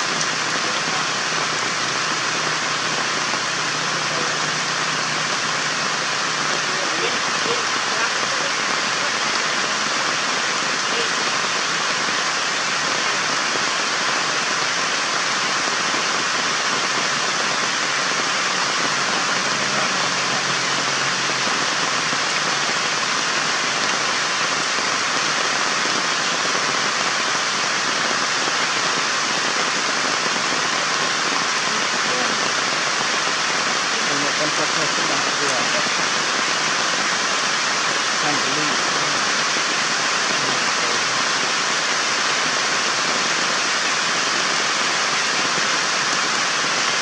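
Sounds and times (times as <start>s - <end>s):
steady outdoor hiss: 0.0s - 47.0s.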